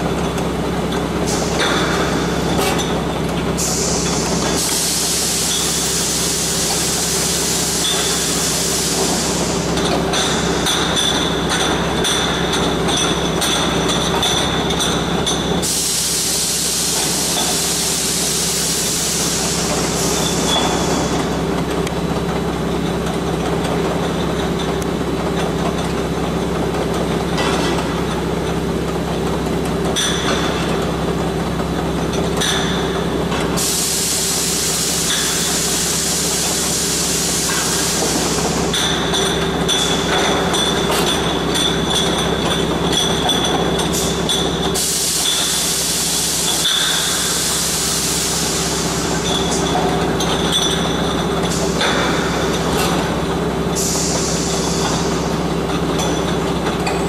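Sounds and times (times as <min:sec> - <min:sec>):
loud machine hissing: 0:00.6 - 0:57.0.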